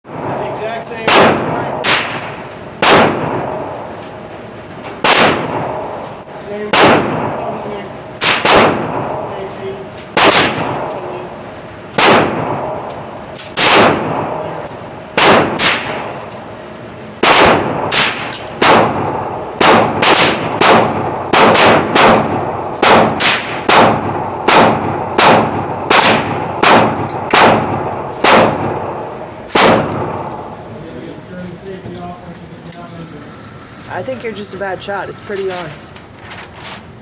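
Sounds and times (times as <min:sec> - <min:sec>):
rifle shots with ringing echo: 0:00.1 - 0:04.2, 0:05.0 - 0:30.7.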